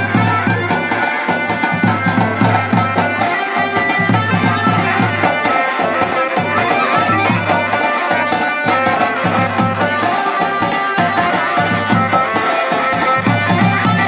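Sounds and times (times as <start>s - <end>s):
folk music with drum: 0.0s - 14.0s.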